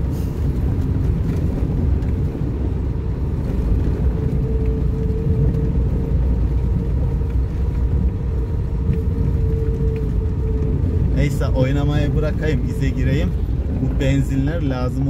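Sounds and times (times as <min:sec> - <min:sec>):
steady whine: 0:00.0 - 0:15.0
vehicle engine and road rumble: 0:00.0 - 0:15.0.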